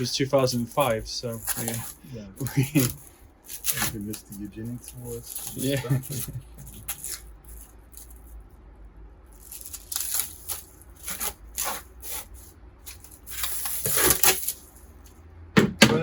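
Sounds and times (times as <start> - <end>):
scratchy rubbing strokes: 0.0 - 8.4, 9.4 - 14.7.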